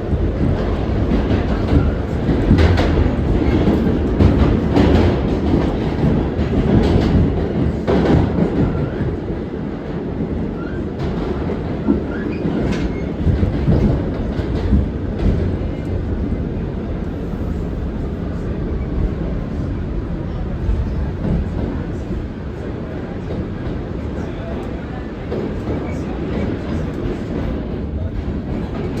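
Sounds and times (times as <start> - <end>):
subway train rumbling in tunnel: 0.0 - 29.0.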